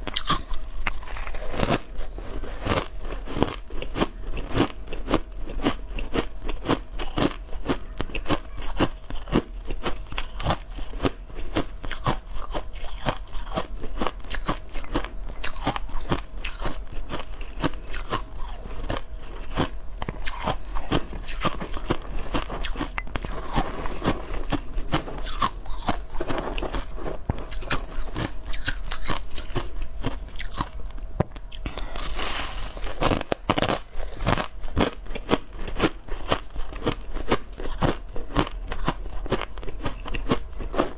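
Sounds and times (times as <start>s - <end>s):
crushed ice being chewed: 0.0s - 40.9s.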